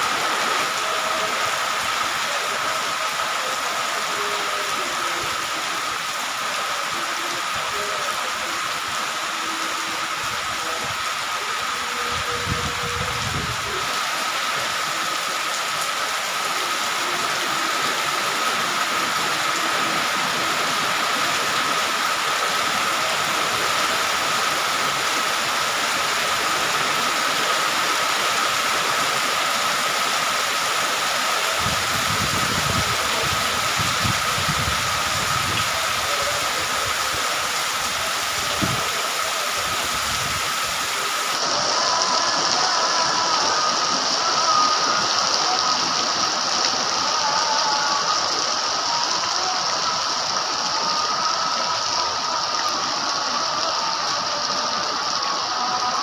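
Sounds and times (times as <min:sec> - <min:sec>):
heavy rain on metal roofs: 0:00.0 - 0:56.0
water running off eaves: 0:00.0 - 0:56.0.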